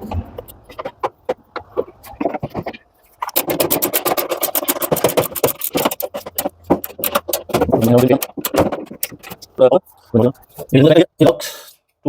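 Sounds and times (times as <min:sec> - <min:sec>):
rapid clicking and scraping: 0:00.0 - 0:10.8.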